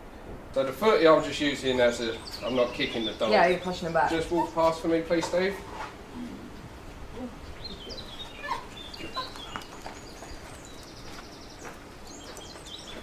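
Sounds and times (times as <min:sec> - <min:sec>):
faint outdoor hush: 0:00.0 - 0:13.0
small birds chirping: 0:00.6 - 0:13.0.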